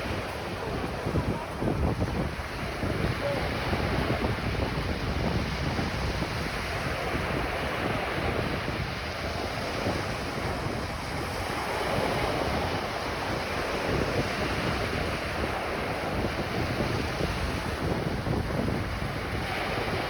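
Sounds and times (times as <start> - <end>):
ocean surf washing onto beach: 0.0 - 20.0
wind buffeting microphone: 0.0 - 20.0.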